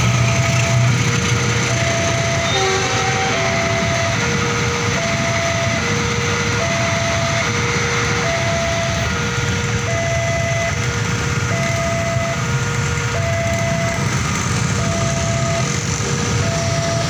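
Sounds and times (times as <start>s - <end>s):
motorcycles idling: 0.0s - 17.0s
train rumbling past: 0.0s - 17.0s
two-tone crossing alarm: 0.0s - 17.0s.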